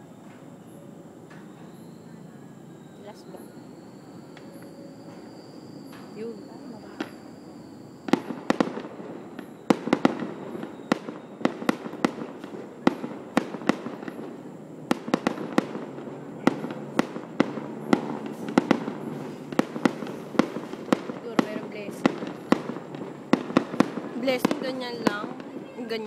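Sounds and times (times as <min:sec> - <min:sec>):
fireworks bangs: 0:00.6 - 0:26.0.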